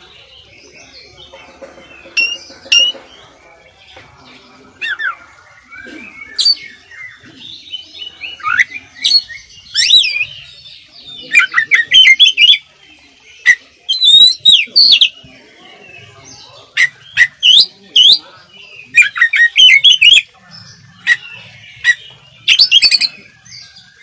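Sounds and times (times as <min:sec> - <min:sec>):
bird singing whistles and chirps: 0:01.9 - 0:03.1, 0:04.8 - 0:24.0.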